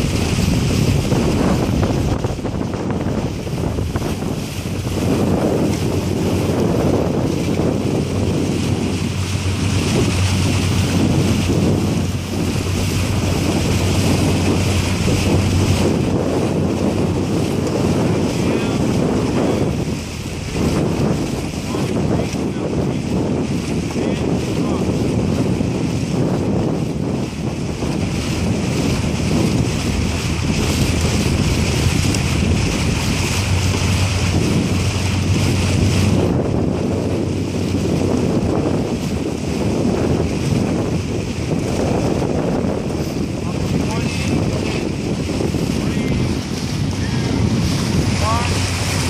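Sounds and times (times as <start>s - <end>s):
water rushing alongside boat: 0.0s - 49.0s
wind buffeting microphone: 0.0s - 49.0s.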